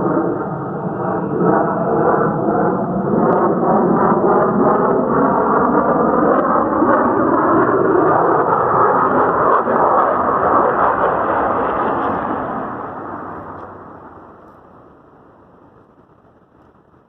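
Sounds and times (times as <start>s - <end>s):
fighter jets flying overhead: 0.0s - 17.0s.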